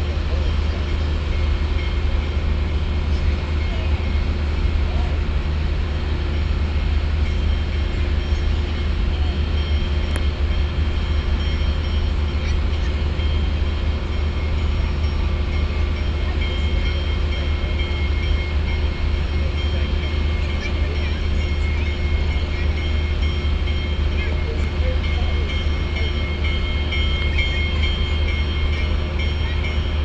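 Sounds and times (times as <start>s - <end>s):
steam locomotive rumbling: 0.0s - 30.0s.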